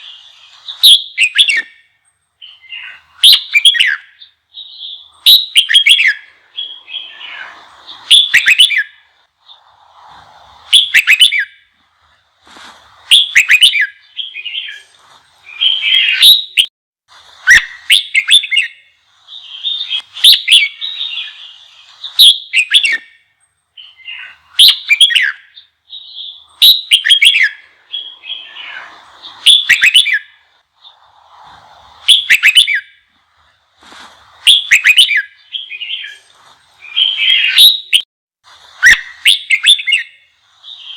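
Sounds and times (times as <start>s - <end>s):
bird singing whistled phrases: 0.0s - 9.1s, 10.7s - 11.6s, 13.1s - 16.7s, 17.4s - 31.0s, 32.0s - 33.0s, 34.4s - 38.0s, 38.8s - 40.9s
bird chatter: 0.0s - 16.6s, 17.4s - 38.0s, 38.8s - 40.9s.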